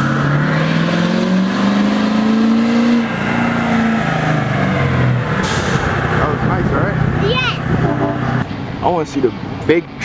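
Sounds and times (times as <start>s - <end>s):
truck engine accelerating: 0.0s - 9.7s.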